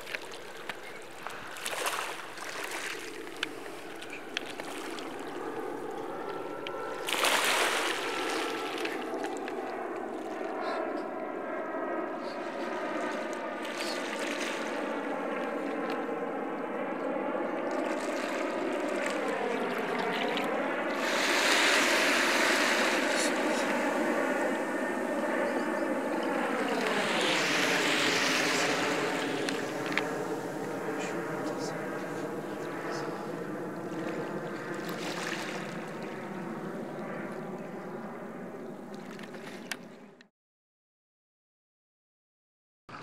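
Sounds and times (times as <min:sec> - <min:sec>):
droning hum: 0:00.0 - 0:40.2.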